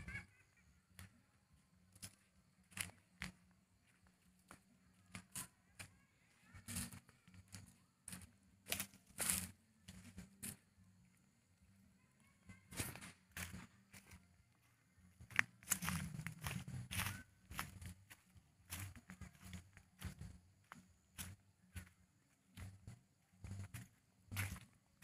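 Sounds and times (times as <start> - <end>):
footsteps crunching on dry ground: 0.0 - 11.6, 12.2 - 25.0.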